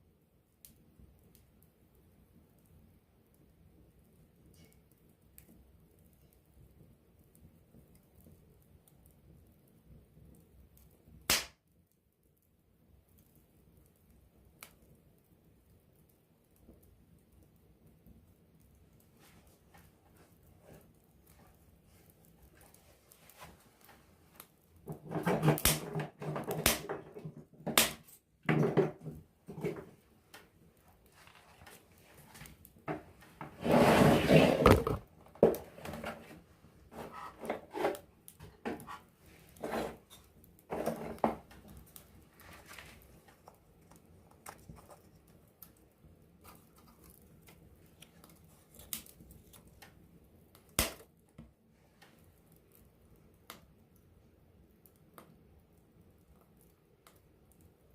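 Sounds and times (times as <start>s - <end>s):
campfire crackling and popping: 0.6s - 28.4s, 29.1s - 33.4s, 37.9s - 57.9s.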